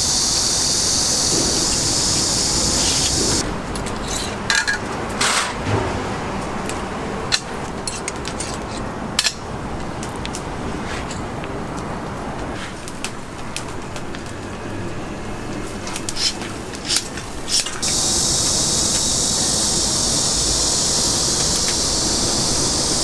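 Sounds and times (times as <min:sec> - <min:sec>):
steady high hiss: 0:00.0 - 0:04.6, 0:08.6 - 0:23.0.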